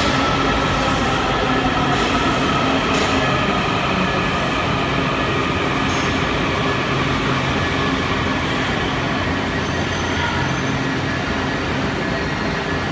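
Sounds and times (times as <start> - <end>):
subway train wheels rumbling: 0.0 - 12.9.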